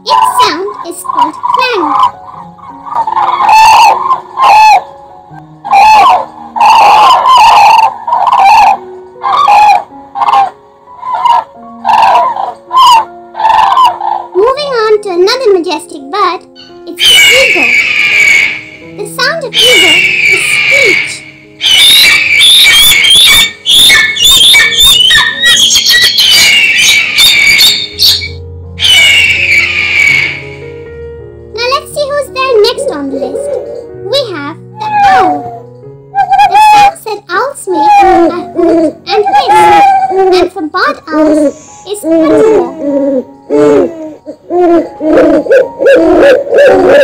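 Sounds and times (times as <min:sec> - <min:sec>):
eagle screeching: 0:00.0 - 0:04.9, 0:05.6 - 0:14.4, 0:16.6 - 0:30.7, 0:34.8 - 0:35.6, 0:36.2 - 0:37.0, 0:37.7 - 0:40.4, 0:41.0 - 0:47.0
crane calling: 0:00.0 - 0:14.4, 0:16.6 - 0:30.7, 0:34.8 - 0:35.6, 0:37.7 - 0:40.4, 0:41.1 - 0:47.0.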